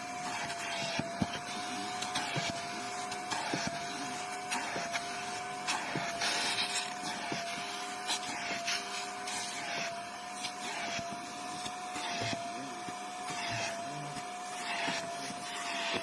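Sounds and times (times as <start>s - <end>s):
vacuum motor whine: 0.0s - 16.0s.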